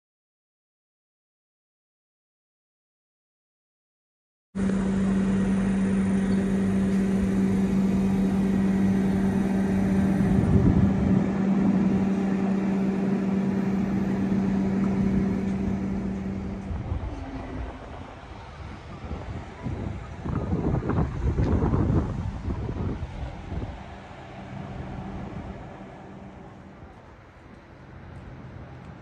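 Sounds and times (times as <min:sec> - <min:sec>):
diesel railcar engine idling: 0:04.6 - 0:29.0.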